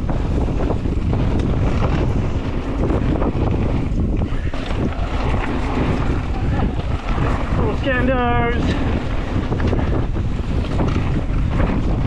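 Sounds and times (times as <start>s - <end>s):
bike knocks and rattles: 0.0s - 12.0s
bike tyres rumbling on dirt: 0.0s - 12.0s
wind buffeting microphone: 0.0s - 12.0s.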